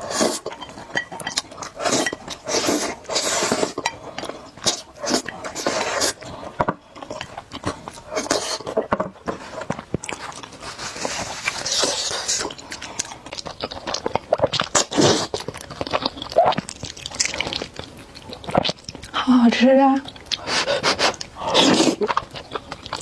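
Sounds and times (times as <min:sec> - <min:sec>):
noodles slurped and chewed: 0:00.0 - 0:23.0.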